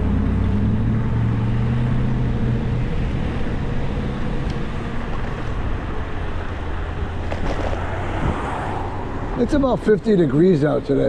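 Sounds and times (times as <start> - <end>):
traffic and road noise: 0.0 - 11.0
vehicle engine hum: 0.0 - 11.0.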